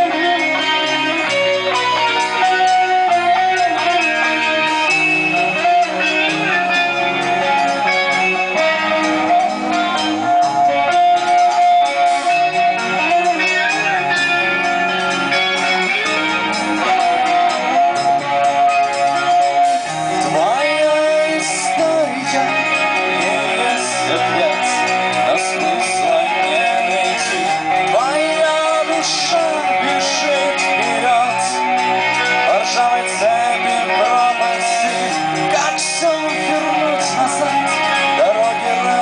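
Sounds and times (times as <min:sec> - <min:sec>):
loud guitar-led music: 0:00.0 - 0:39.0.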